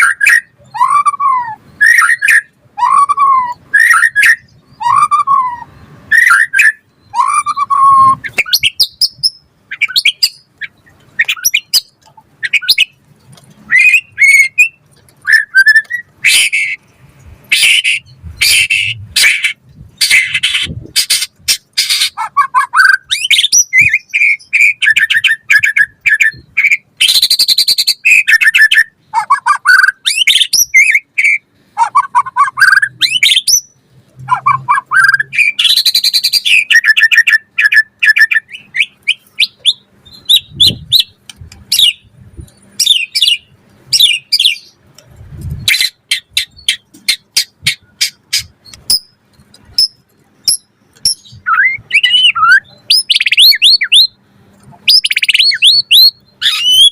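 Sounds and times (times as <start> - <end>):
bird singing varied whistles and trills: 0.0 - 13.0, 13.7 - 16.9, 17.5 - 44.8, 45.6 - 54.2, 54.8 - 56.9.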